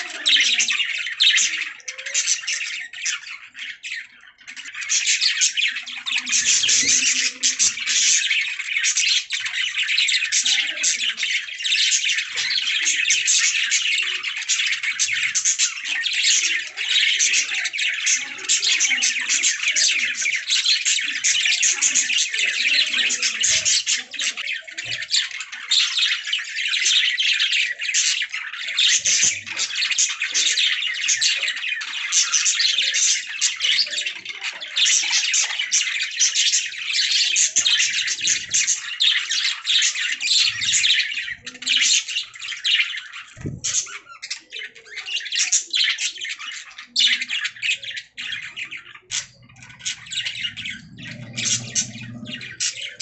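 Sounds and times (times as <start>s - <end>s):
budgerigars chirping and squawking: 0.0s - 53.0s.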